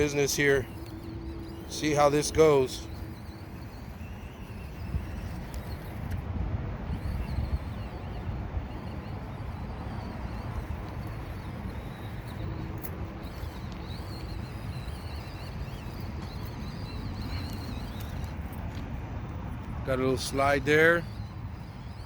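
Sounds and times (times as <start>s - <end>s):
small electric motor and gears whining: 0.0s - 22.0s.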